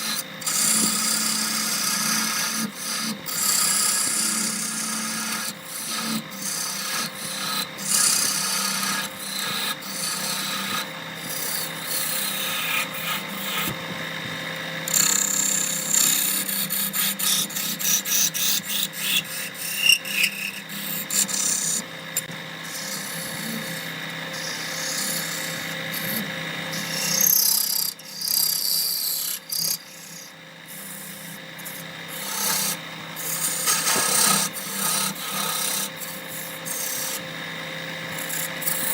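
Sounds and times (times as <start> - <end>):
tool scraping spinning wood: 0.0 - 38.9
wood lathe motor hum: 0.0 - 38.9.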